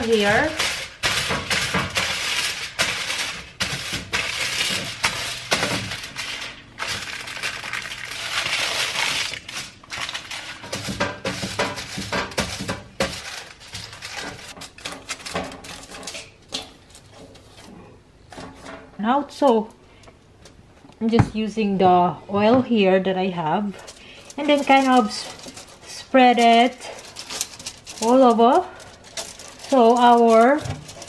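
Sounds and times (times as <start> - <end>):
aluminium foil crinkling: 0.0 - 17.7, 23.6 - 31.0.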